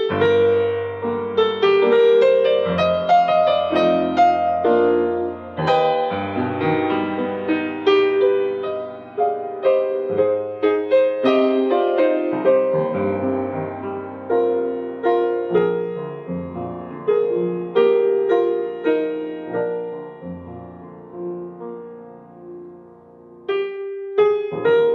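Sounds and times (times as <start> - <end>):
gentle piano music: 0.0 - 24.9.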